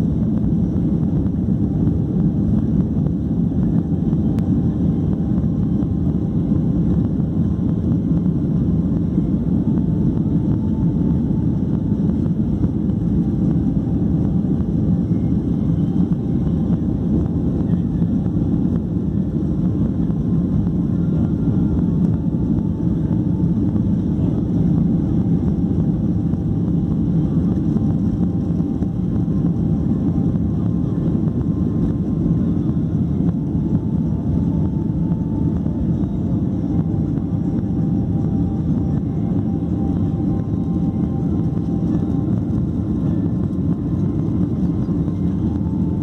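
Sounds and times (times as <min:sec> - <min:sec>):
jet engine cabin rumble: 0:00.0 - 0:46.0.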